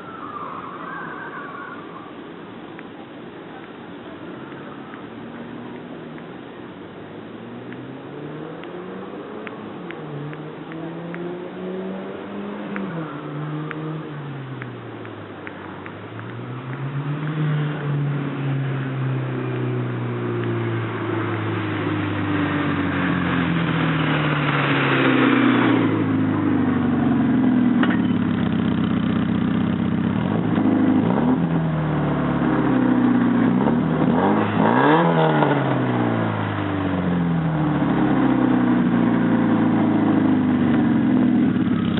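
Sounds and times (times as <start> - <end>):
car engine revving: 7.4 - 14.6, 15.5 - 41.9.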